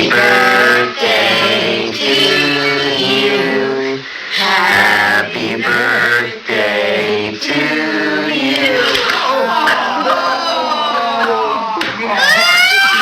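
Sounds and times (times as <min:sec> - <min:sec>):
voices singing unaccompanied: 0:00.0 - 0:10.9.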